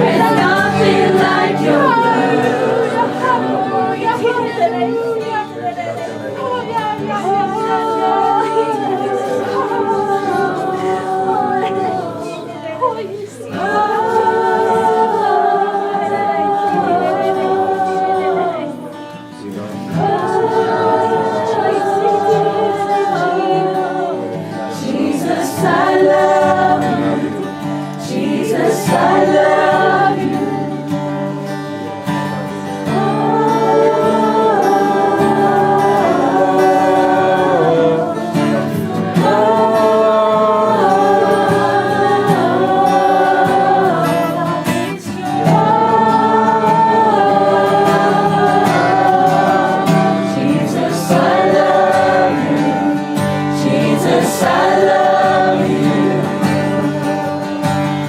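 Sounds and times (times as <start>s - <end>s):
group singing worship song: 0.0s - 58.0s.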